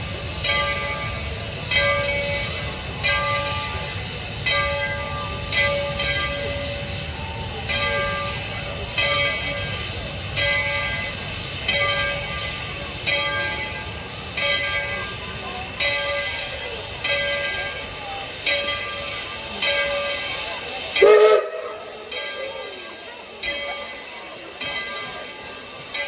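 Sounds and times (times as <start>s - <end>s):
crowd chatter: 0.0s - 26.0s
locomotive bell ringing: 0.0s - 26.0s.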